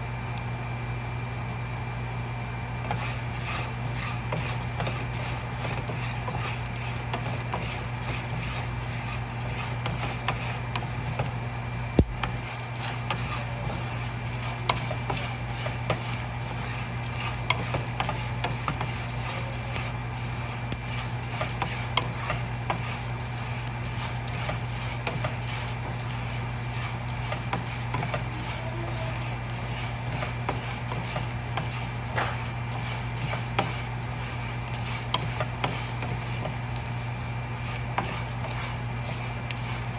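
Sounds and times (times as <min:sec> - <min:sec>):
spatula stirring seeds in pan: 0:02.8 - 0:39.9.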